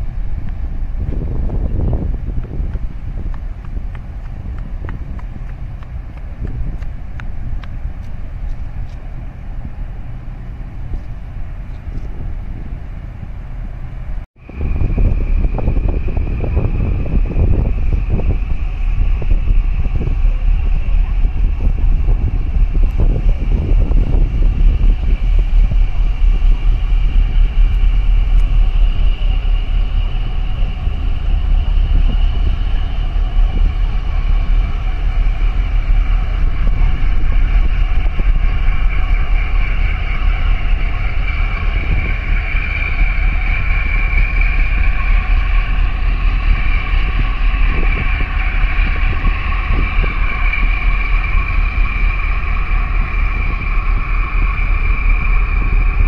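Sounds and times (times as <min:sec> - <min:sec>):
boat engine rumbling: 0:00.0 - 0:56.0
machinery whine: 0:00.0 - 0:56.0
wind buffeting microphone: 0:00.0 - 0:56.0.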